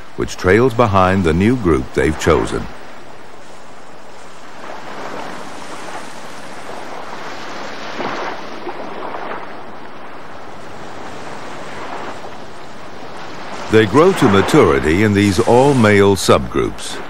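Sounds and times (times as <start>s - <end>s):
surf washing on rocky shore: 0.0s - 17.0s.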